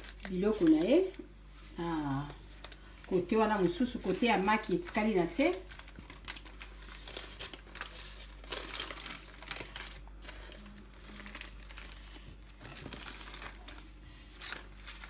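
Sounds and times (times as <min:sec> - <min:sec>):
foil and paper crinkling: 0:00.0 - 0:01.2, 0:02.1 - 0:15.0.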